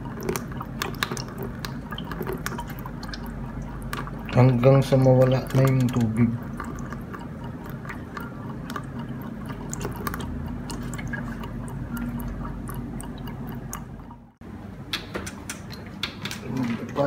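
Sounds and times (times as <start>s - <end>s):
liquid trickling into a bowl: 0.0s - 14.4s
small drips and clicks: 0.0s - 16.5s.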